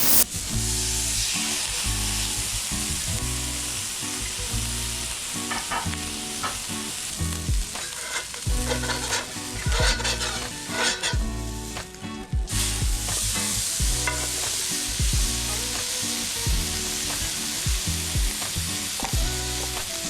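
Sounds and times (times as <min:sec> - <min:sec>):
fish sizzling in hot oil: 0:00.0 - 0:20.0
oil crackling and popping: 0:00.0 - 0:20.0.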